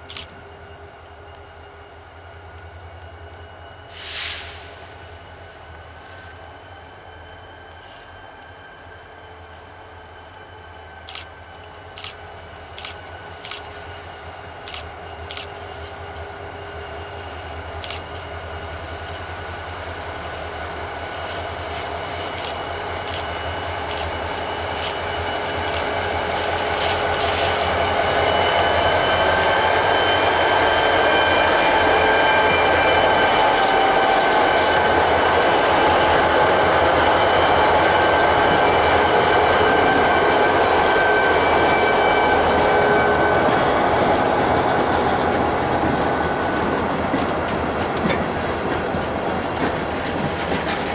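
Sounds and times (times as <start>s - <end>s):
diesel locomotives passing: 0.0s - 50.9s
high wheel squeal: 0.0s - 50.9s.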